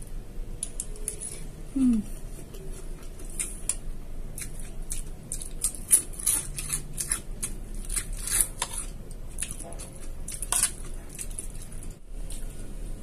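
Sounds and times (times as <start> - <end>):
person chewing: 0.6 - 12.5.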